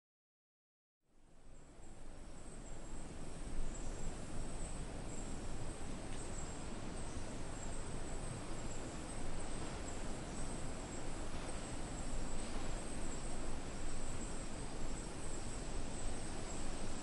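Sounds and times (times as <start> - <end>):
background hiss: 1.2 - 17.0
insects trilling: 2.3 - 17.0.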